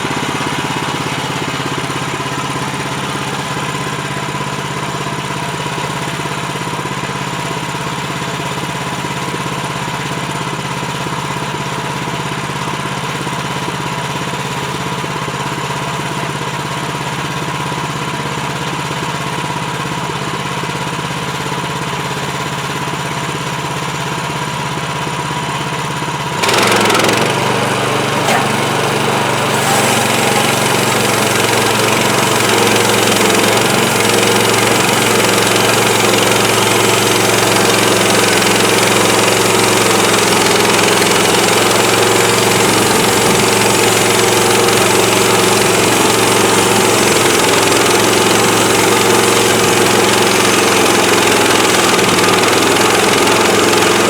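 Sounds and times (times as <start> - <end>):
sawmill engine running: 0.0 - 14.4, 23.7 - 54.0.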